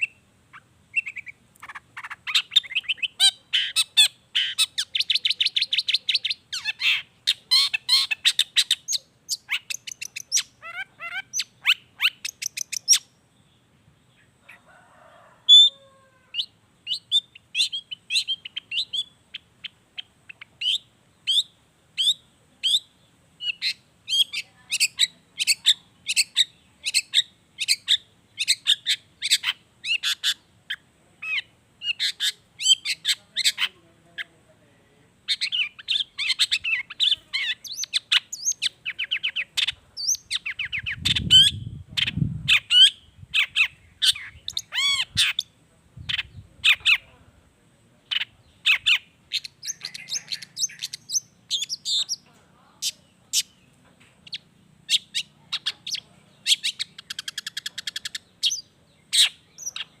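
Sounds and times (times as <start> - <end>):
bird singing chirps and trills: 0.0 - 14.6, 15.5 - 34.3, 35.2 - 47.1, 48.0 - 60.0.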